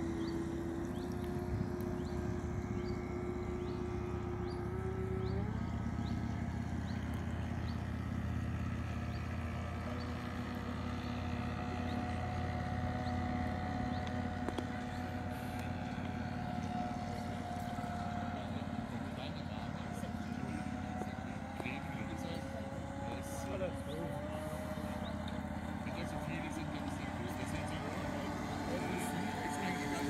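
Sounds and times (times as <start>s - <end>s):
low steady rumble: 0.0s - 30.0s
model boat motor whine: 0.0s - 30.0s.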